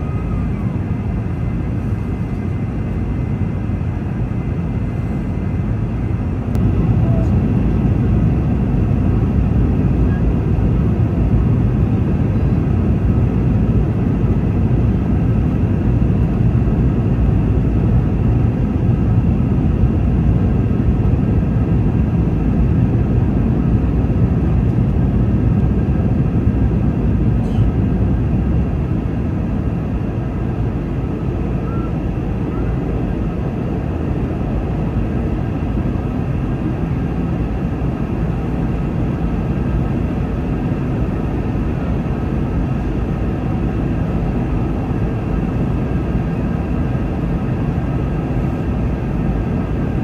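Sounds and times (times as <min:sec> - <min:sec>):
airplane cabin rumble: 0:00.0 - 0:50.0
faint steady whine: 0:00.0 - 0:50.0.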